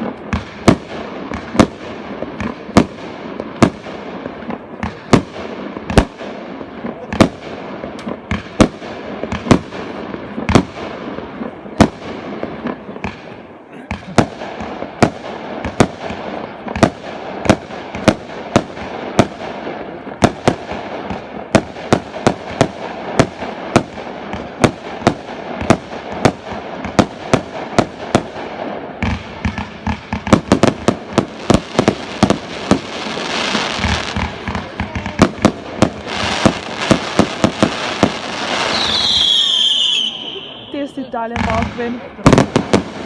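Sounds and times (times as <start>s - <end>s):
fireworks bangs: 0.0s - 43.0s
fireworks crackle: 0.0s - 43.0s.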